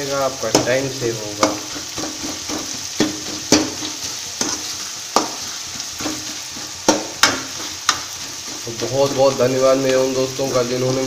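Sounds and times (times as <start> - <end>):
spatula scraping and knocking pan: 0.0 - 10.8
onions sizzling in hot oil: 0.0 - 11.0.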